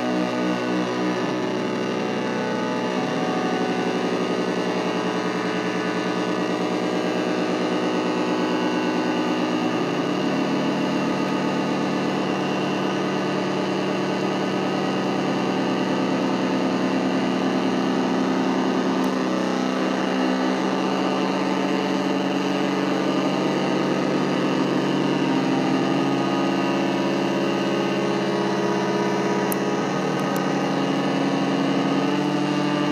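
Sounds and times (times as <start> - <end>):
buzzing synthesizer drone: 0.0 - 32.9.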